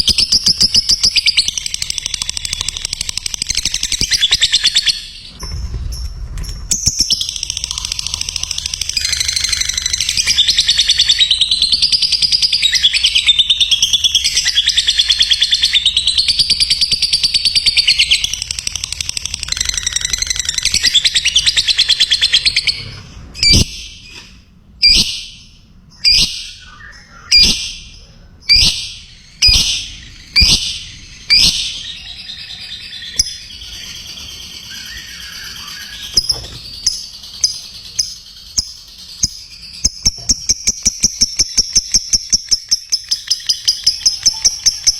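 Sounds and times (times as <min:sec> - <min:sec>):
lovebird chattering trill: 0:06.8 - 0:24.0, 0:26.0 - 0:44.9.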